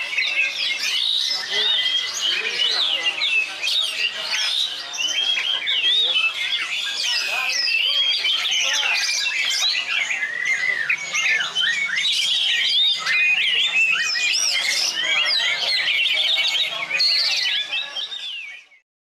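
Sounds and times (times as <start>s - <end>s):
songbirds chirping and whistling: 0.0s - 18.8s.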